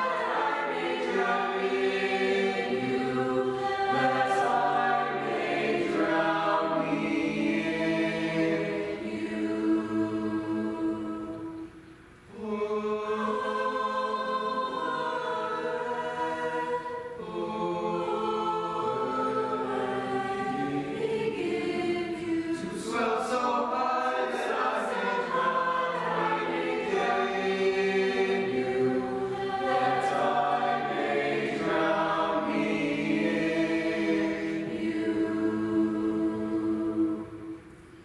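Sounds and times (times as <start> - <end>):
mixed choir singing in parts: 0.0 - 37.7.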